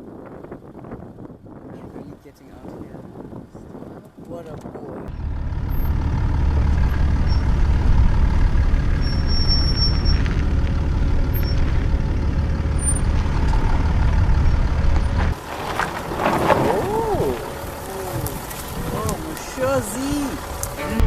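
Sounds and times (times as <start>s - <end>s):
engine and tyres rumbling: 0.0s - 21.0s.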